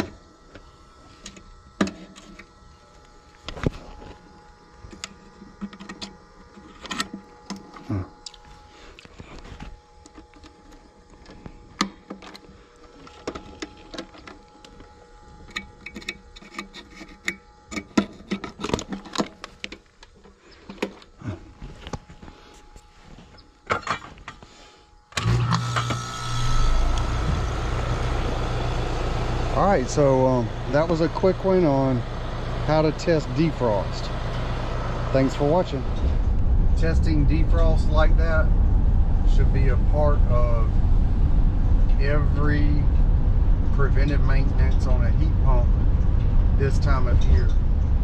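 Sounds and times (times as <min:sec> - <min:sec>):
outdoor unit humming: 0:00.0 - 0:48.0.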